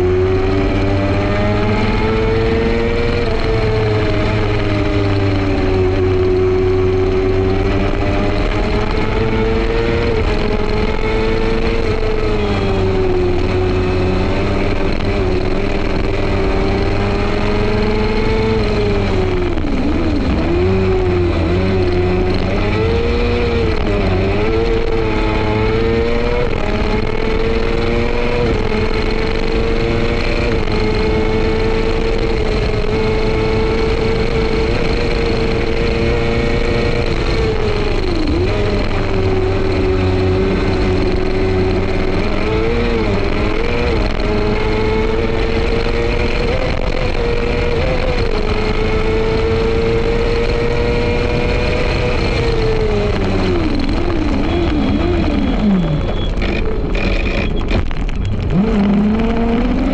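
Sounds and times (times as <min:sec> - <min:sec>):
racing engine running hard: 0:00.0 - 0:59.9.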